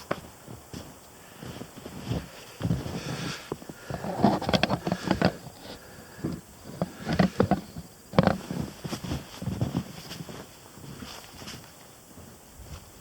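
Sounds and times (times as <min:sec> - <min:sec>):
footsteps: 0:00.0 - 0:13.0.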